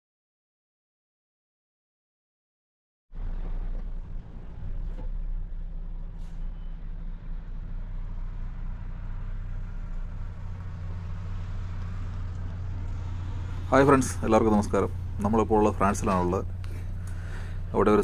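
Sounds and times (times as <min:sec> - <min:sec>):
truck diesel engine drone: 0:03.2 - 0:18.0.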